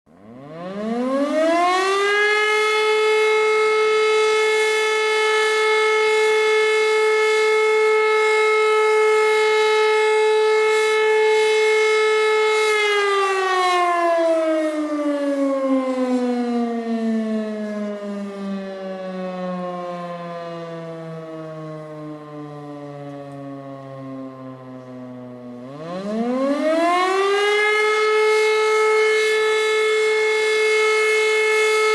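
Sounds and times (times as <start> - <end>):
civil defence siren: 0.1 - 31.9.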